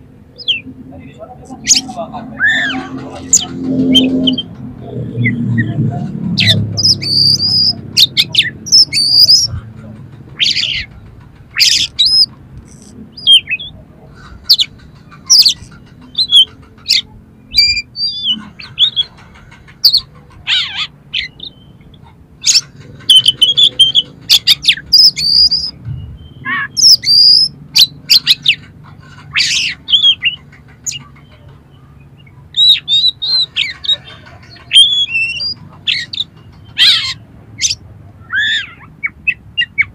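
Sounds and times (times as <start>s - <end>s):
magpie-robin singing: 0.3s - 5.7s, 6.3s - 39.9s.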